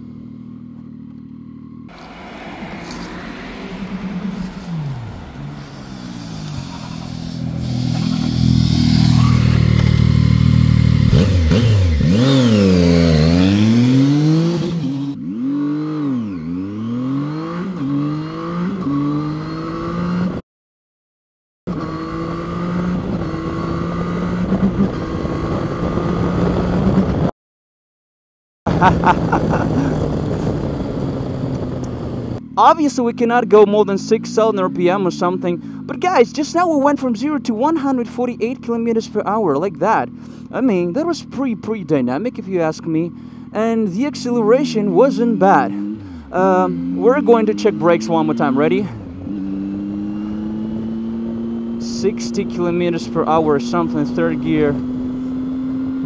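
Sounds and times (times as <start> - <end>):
motorcycle engine accelerating: 0.0 - 20.4, 21.7 - 27.3, 28.7 - 56.0.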